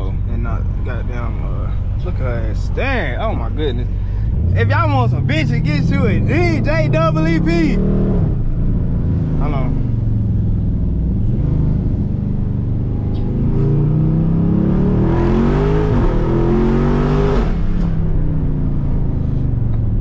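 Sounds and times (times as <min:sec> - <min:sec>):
car engine accelerating from inside: 0:00.2 - 0:20.0.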